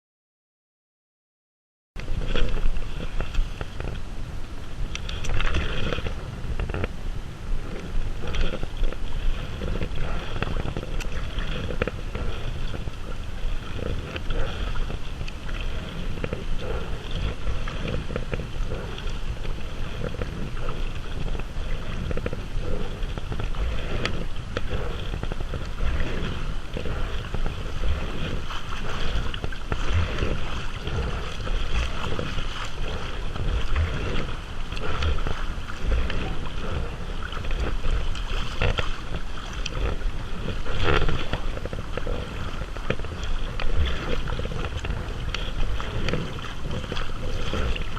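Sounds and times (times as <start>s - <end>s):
water splashing around kayak: 2.0s - 47.9s
wind rumbling on microphone: 2.0s - 47.9s.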